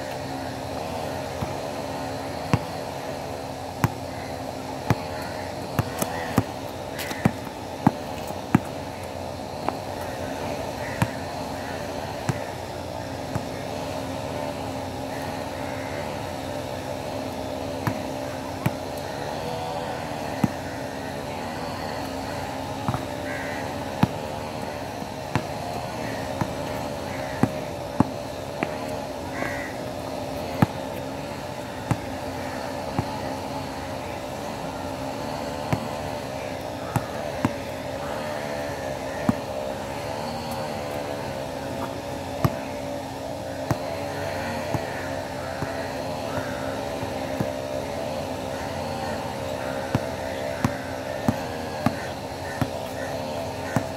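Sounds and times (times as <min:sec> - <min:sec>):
steady background hum: 0:00.0 - 0:53.9
basketball bouncing on hard court: 0:00.8 - 0:03.1, 0:03.8 - 0:04.1, 0:04.8 - 0:08.9, 0:09.5 - 0:12.5, 0:13.1 - 0:14.6, 0:17.6 - 0:42.9, 0:43.6 - 0:53.9.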